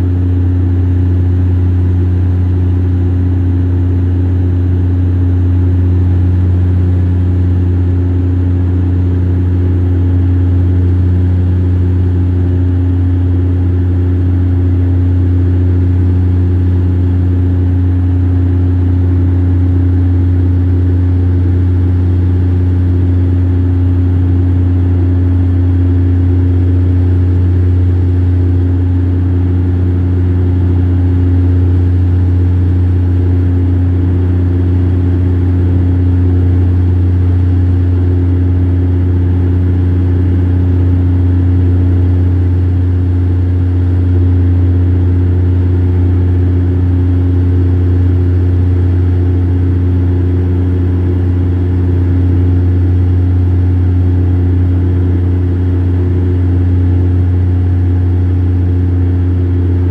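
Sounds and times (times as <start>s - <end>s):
turboprop engine drone: 0.0s - 59.9s.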